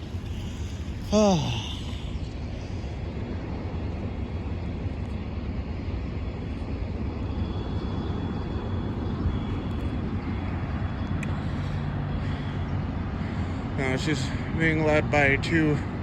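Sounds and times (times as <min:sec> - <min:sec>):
diesel locomotive rumble and hum: 0:00.0 - 0:16.0
faint high whine: 0:00.0 - 0:16.0.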